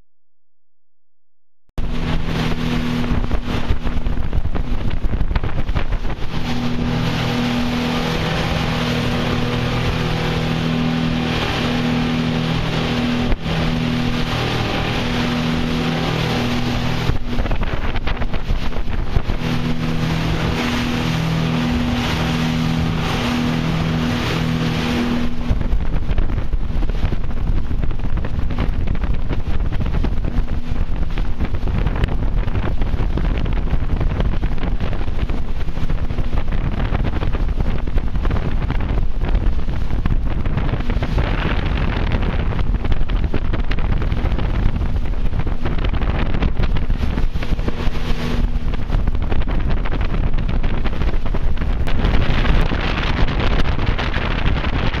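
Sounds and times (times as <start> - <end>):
outboard motors droning: 1.8 - 55.0
wake water rushing: 1.8 - 55.0
wind buffeting microphone: 1.8 - 55.0.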